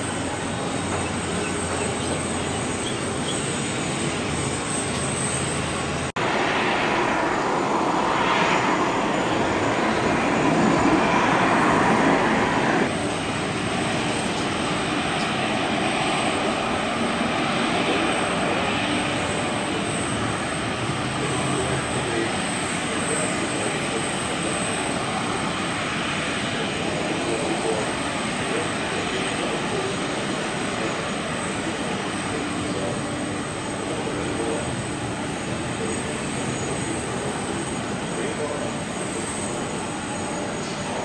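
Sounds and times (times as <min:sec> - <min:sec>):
fighter jet passing overhead: 0:00.0 - 0:41.0
jet airliner rolling on runway: 0:00.0 - 0:41.0
jet engine taxiing: 0:00.0 - 0:41.0.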